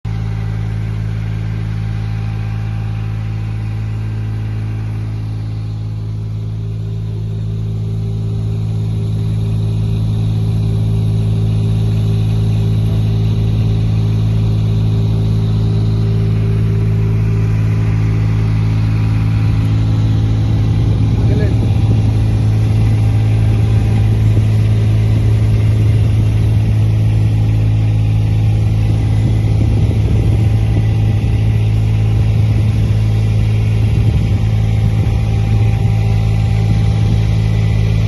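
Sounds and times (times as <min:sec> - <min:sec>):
engine humming steadily: 0:00.0 - 0:38.0.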